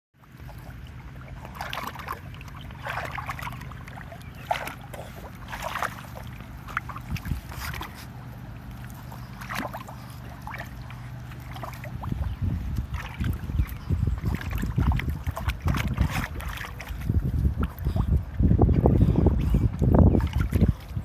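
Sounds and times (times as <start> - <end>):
steady low hum: 0.2 - 21.0
water splashing and sloshing: 0.2 - 21.0.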